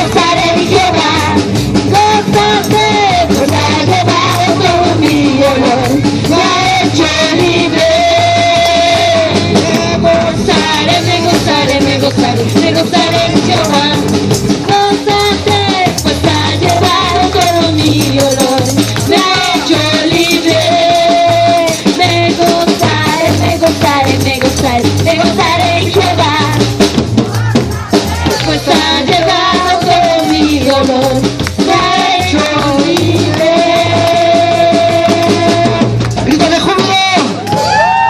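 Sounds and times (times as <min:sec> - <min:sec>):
singing of worship song: 0:00.0 - 0:26.7, 0:27.5 - 0:36.0
live praise band playing: 0:00.0 - 0:38.0.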